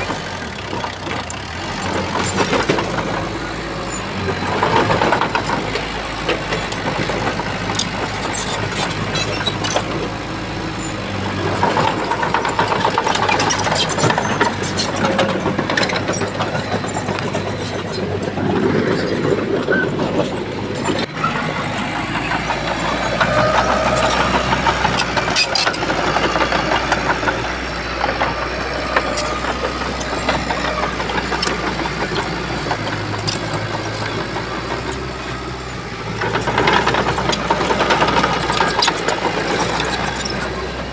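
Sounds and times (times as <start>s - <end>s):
bulldozer diesel engine: 0.0s - 40.9s
metal clanks and knocks: 4.0s - 40.7s.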